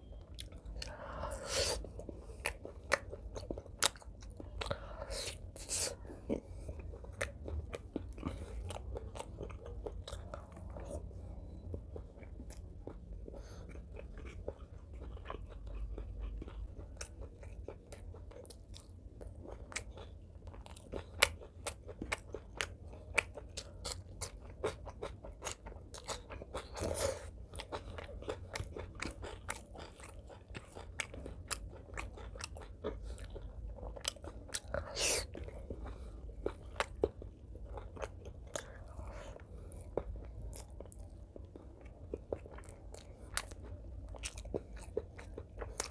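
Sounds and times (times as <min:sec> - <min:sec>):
person chewing with wet smacks: 0:00.0 - 0:45.9.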